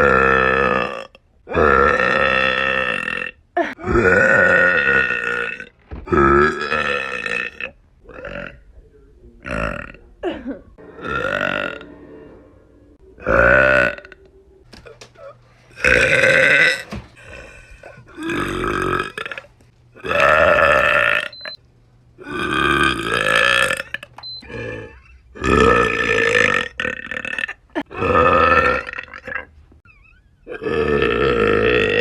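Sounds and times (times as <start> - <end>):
woman burping loudly: 0.0 - 8.6, 9.4 - 11.8, 13.2 - 14.2, 15.2 - 21.3, 22.2 - 29.5, 30.5 - 32.0.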